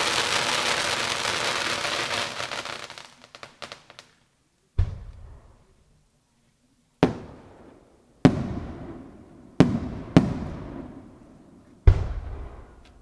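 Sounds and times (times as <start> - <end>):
fireworks bursting: 0.0 - 4.2, 4.8 - 5.7, 7.0 - 13.0.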